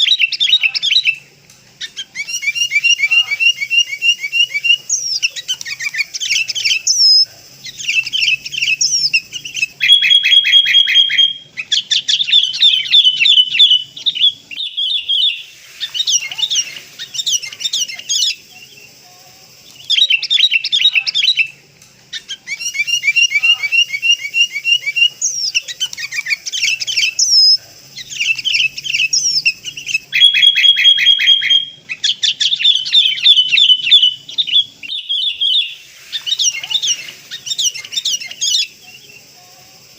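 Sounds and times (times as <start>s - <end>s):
bulbuls calling: 0.0s - 39.9s.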